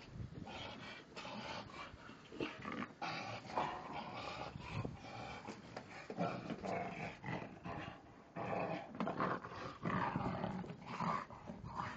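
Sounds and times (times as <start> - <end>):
dog growling in play: 0.5 - 11.9.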